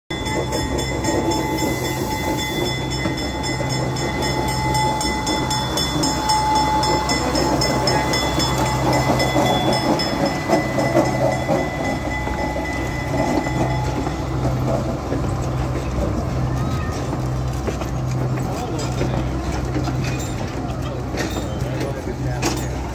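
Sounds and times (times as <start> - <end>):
diesel locomotive engine drone: 0.1 - 22.9
wheels clicking over rail joints: 0.1 - 22.9.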